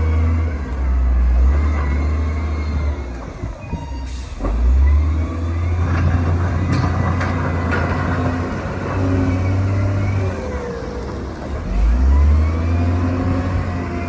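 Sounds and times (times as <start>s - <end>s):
heavy diesel engine under load: 0.0s - 14.0s.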